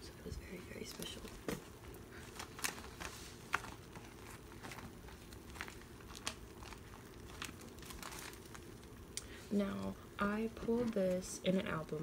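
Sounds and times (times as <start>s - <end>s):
plastic sleeves crinkling: 0.6s - 12.0s.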